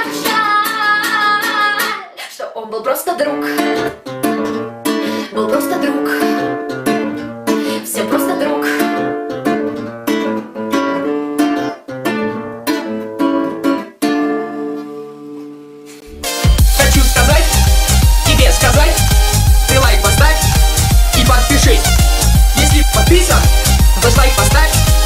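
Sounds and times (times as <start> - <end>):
classical guitar strumming chords: 0.0 - 1.9, 3.2 - 25.0.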